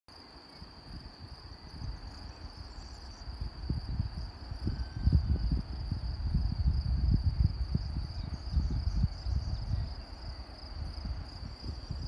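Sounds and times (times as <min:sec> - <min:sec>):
insects chirring: 0:00.1 - 0:12.0
wind buffeting microphone: 0:00.6 - 0:12.0.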